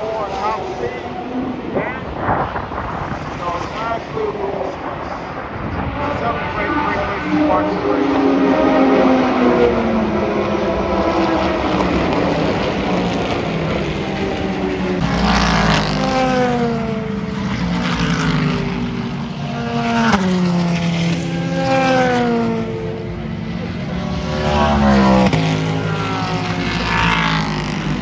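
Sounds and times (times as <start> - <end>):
distant race car engines: 0.0 - 28.0
race cars passing at speed: 0.0 - 28.0.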